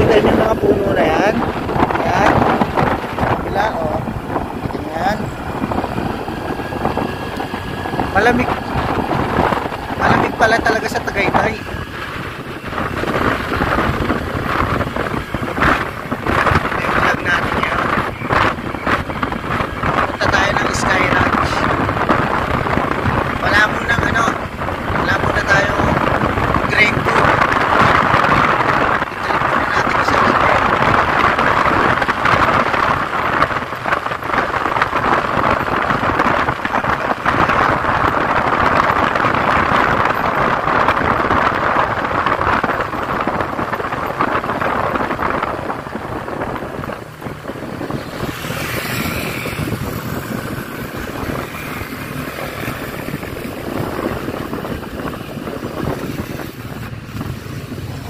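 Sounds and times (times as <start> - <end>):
motorcycle wind and road noise: 0.0 - 58.0.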